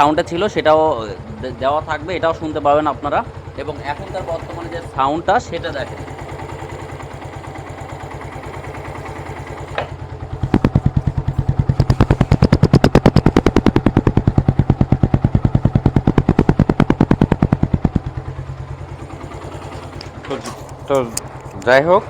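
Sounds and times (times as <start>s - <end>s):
single-cylinder motorcycle engine running: 0.0s - 22.0s.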